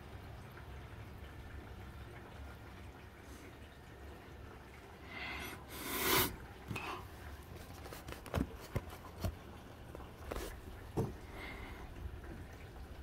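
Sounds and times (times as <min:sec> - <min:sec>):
rain through closed window: 0:00.0 - 0:13.0.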